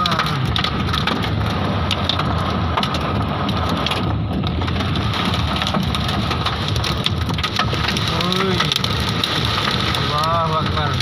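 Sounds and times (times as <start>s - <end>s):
hail clattering: 0.0s - 11.0s
heavy rain hissing: 0.0s - 11.0s.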